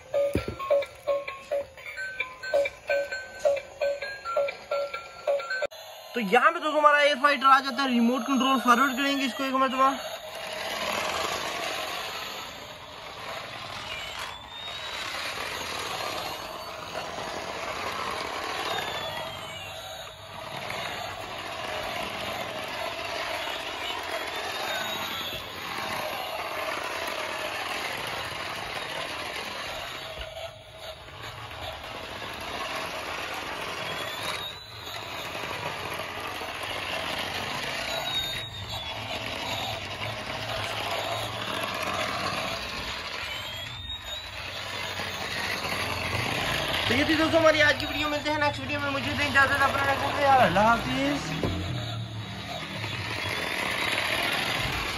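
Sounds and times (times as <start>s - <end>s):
faint high motor whine: 0.0s - 54.9s
toy motor and wheels whirring: 0.0s - 54.9s.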